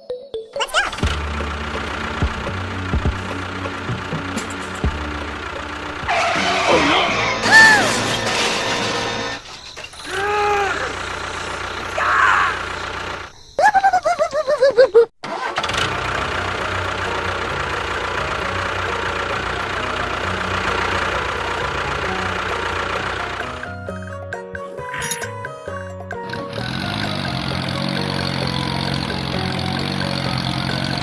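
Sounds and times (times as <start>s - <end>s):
small engine cranking and running: 0.8s - 13.6s, 15.2s - 23.7s, 26.2s - 31.0s.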